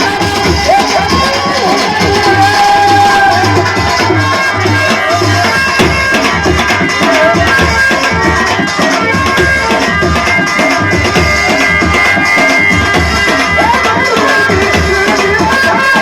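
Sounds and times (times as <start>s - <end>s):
hand drum beat: 0.0s - 16.0s.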